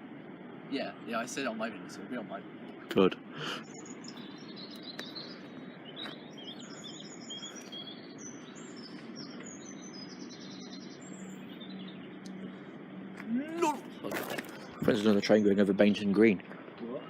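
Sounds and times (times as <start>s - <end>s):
birds chirping: 0.0s - 17.0s
outdoor background noise: 0.0s - 17.0s.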